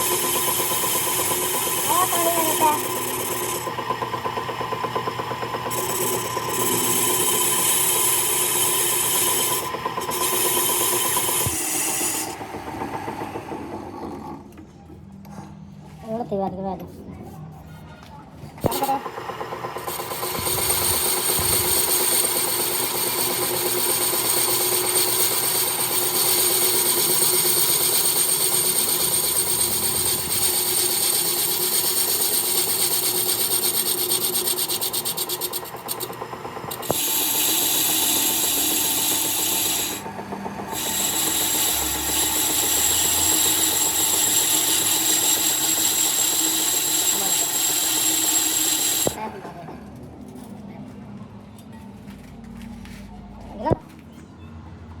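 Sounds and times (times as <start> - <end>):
power tool whining on metal: 0.0 - 14.5, 18.6 - 49.5.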